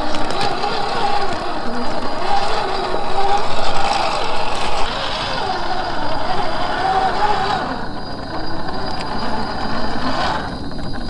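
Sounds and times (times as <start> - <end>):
electric motor and gears whining: 0.0 - 11.0.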